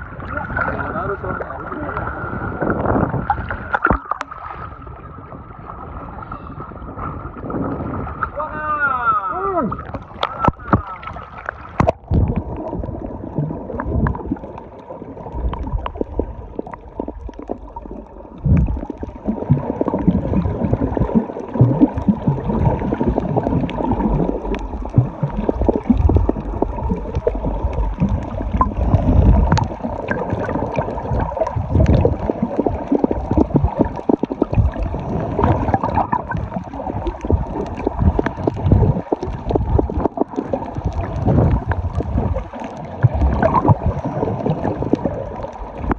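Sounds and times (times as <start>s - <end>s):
underwater clicks and crackles: 0.0s - 5.3s, 6.6s - 8.4s, 9.1s - 45.9s
muffled underwater rumble and gurgling: 0.0s - 45.9s.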